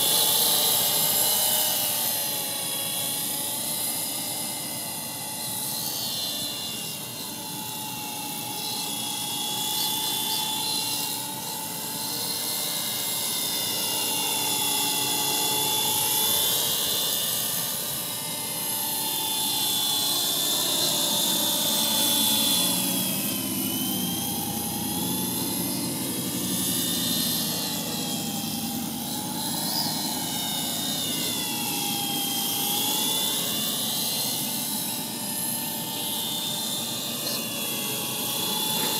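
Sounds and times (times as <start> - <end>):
toy helicopter rotor whine: 0.0 - 38.9.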